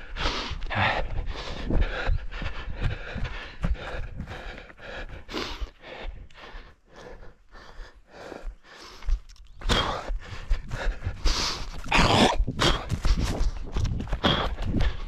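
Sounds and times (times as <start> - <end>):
runner breathing hard: 0.0 - 15.0
running footfalls: 0.0 - 15.0.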